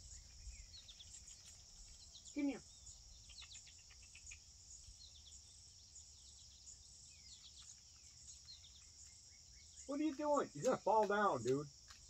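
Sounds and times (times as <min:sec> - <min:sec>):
cricket chorus: 0:00.0 - 0:12.0.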